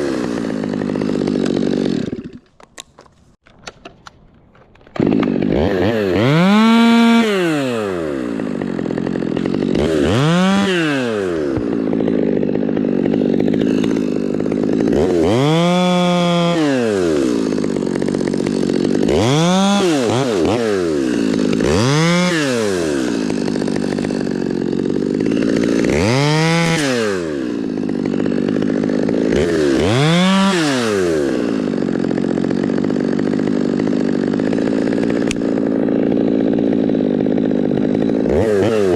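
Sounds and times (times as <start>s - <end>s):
chainsaw idling and revving: 0.0s - 2.7s, 4.8s - 38.9s.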